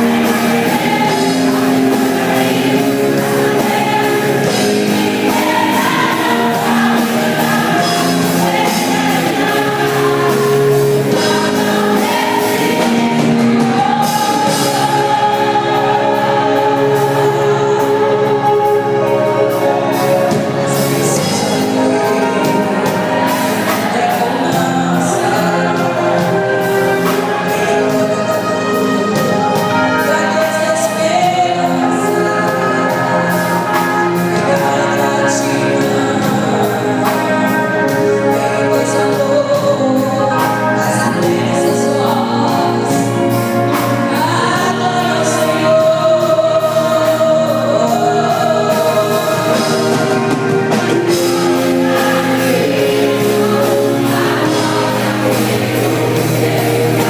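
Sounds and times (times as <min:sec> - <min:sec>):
band accompaniment: 0:00.0 - 0:57.0
choir singing a hymn: 0:00.0 - 0:57.0
steady drum beat: 0:00.0 - 0:57.0.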